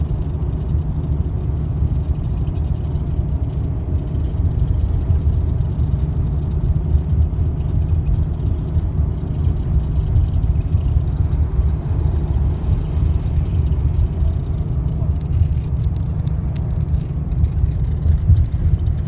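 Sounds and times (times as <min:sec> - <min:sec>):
road and tyre noise: 0:00.0 - 0:19.0.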